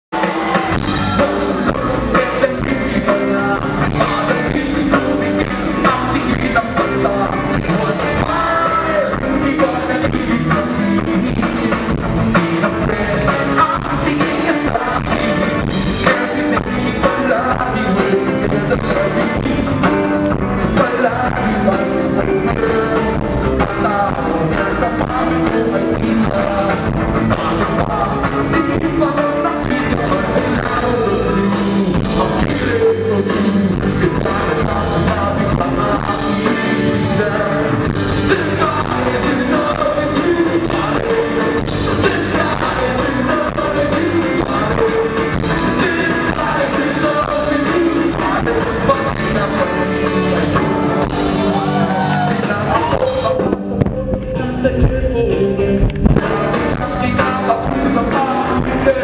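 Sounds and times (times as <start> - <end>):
live rock band: 0.1 - 59.0
person singing: 0.1 - 59.0.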